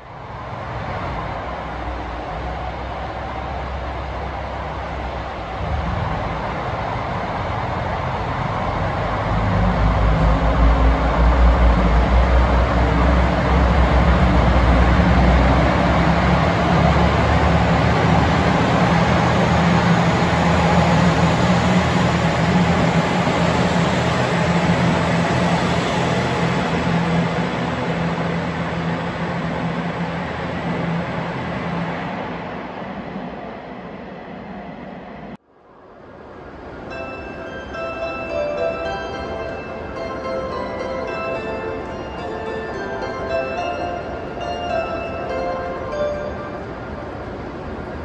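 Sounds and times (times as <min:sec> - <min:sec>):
diesel railcar engine drone: 0:00.0 - 0:48.0.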